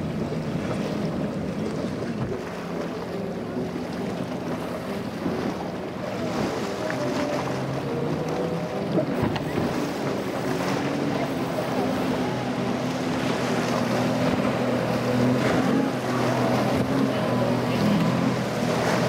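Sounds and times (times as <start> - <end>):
outboard engine running: 0.0 - 19.0.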